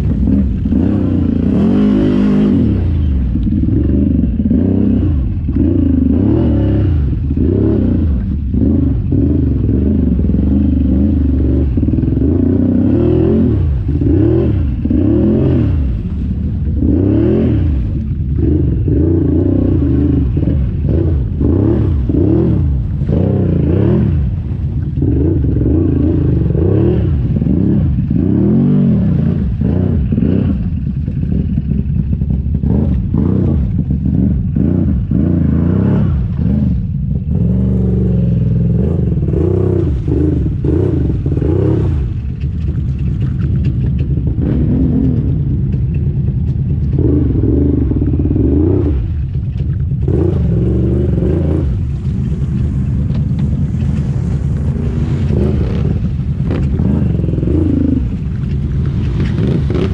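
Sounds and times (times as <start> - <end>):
atv engine revving: 0.0 - 59.9
vehicle churning through mud and water: 0.0 - 59.9.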